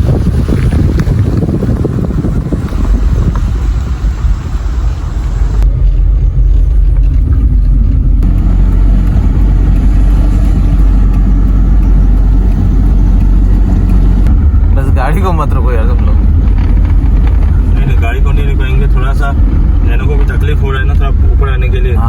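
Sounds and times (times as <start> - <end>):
car engine labouring uphill: 0.0 - 22.0
road noise inside car: 0.0 - 22.0.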